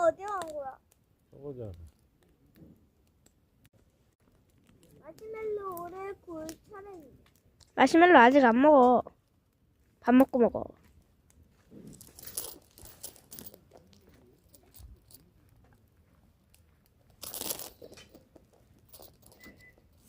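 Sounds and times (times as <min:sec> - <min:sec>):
campfire crackling and popping: 0:00.0 - 0:12.1, 0:12.7 - 0:20.0.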